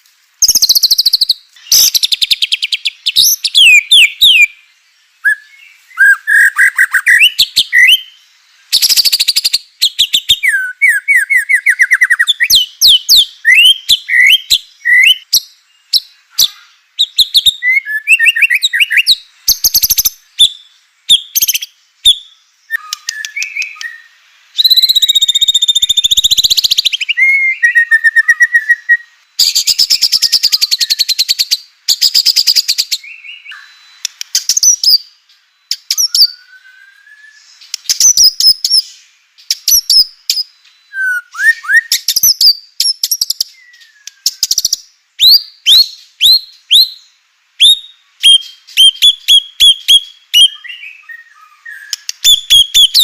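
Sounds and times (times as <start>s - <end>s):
bird singing whistled phrases: 0.4s - 4.6s, 5.2s - 53.0s.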